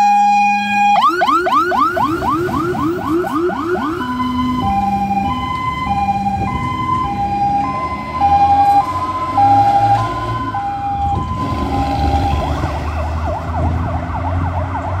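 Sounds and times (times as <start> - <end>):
fire engine siren: 0.0 - 15.0
engine rumble: 1.0 - 15.0.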